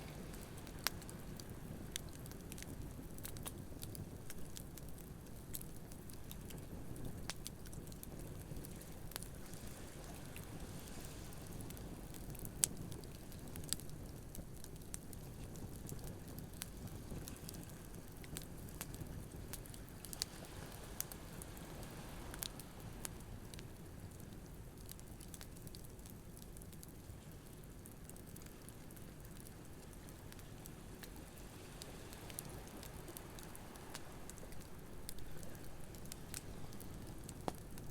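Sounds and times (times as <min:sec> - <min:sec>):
campfire crackling and popping: 0:00.1 - 0:10.6, 0:11.3 - 0:21.6, 0:22.3 - 0:37.9.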